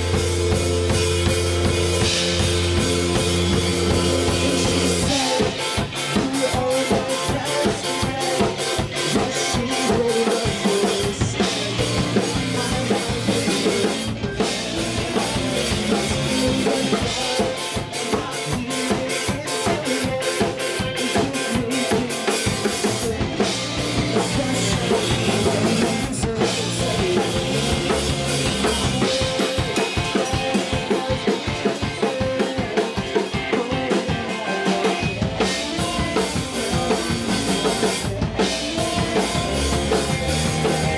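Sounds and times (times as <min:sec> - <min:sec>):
drum kit fast beat: 0:00.0 - 0:40.9
rock band playing live: 0:00.0 - 0:40.9.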